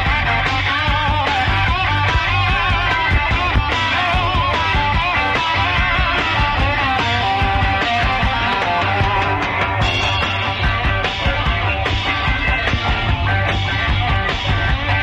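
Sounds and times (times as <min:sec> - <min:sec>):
bass guitar: 0:00.0 - 0:15.0
electric guitars: 0:00.0 - 0:15.0
steady drum beat: 0:00.0 - 0:15.0.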